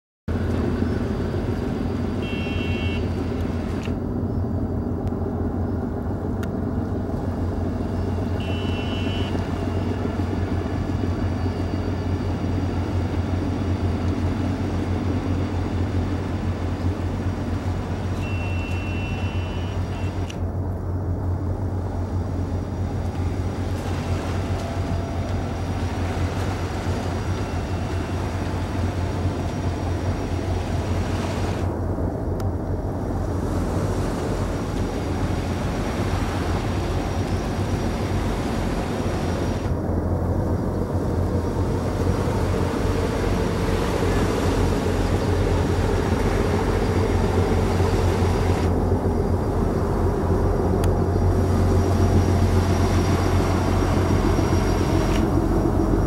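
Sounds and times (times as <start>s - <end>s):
boat diesel engines humming: 0.3s - 56.0s.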